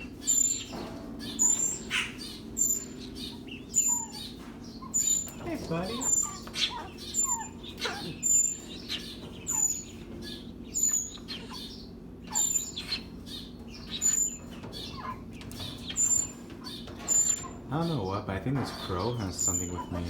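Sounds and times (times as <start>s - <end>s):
birds chirping: 0.0s - 20.0s
falling bird calls: 0.0s - 20.0s
steady low hum: 0.0s - 20.0s.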